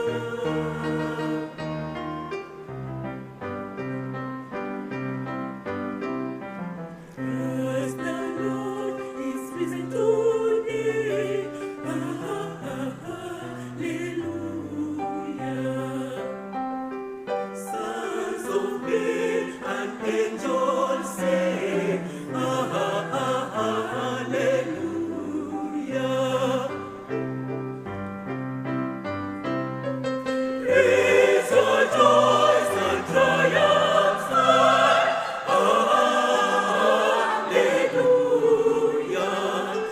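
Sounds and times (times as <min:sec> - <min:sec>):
choir singing in harmony: 0:00.0 - 0:04.0, 0:06.9 - 0:27.8, 0:30.3 - 0:39.9.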